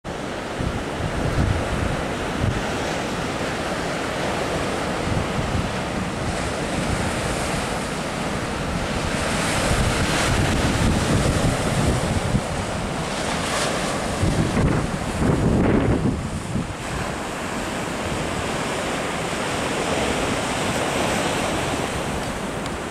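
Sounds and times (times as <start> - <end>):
waves breaking on rocky shore: 0.1 - 22.9
wind buffeting microphone: 0.1 - 22.9.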